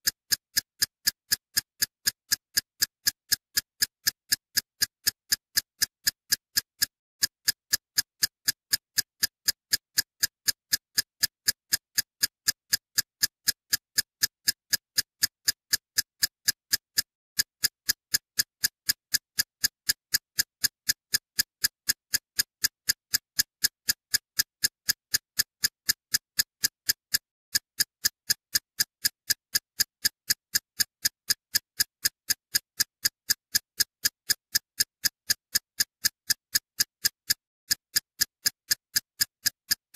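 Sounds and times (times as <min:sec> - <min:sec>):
sharp looped ticking: 0:03.8 - 0:39.9.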